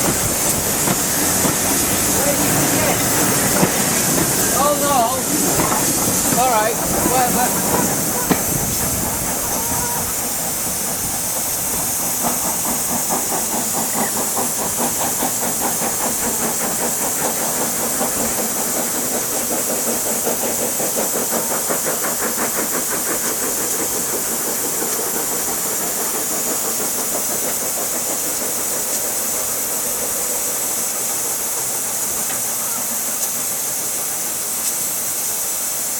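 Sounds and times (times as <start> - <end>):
steam hissing: 0.0 - 35.9.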